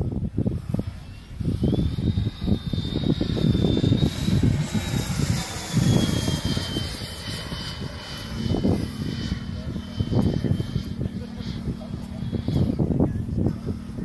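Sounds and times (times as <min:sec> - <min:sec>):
jet flying past: 0:00.0 - 0:14.0
low rumble: 0:00.0 - 0:14.0.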